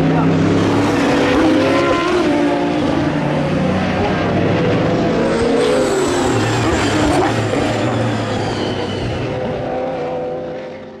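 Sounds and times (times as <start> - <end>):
race car engines passing: 0.0 - 11.0.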